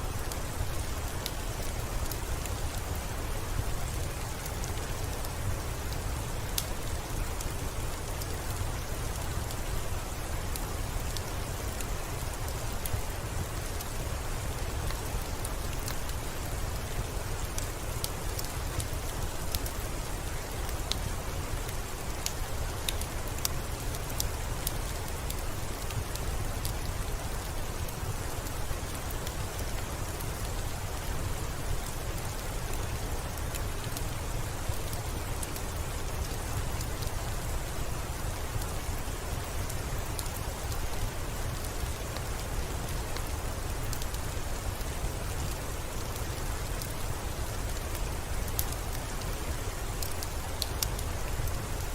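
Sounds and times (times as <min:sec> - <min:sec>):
steady rainfall: 0:00.0 - 0:51.9.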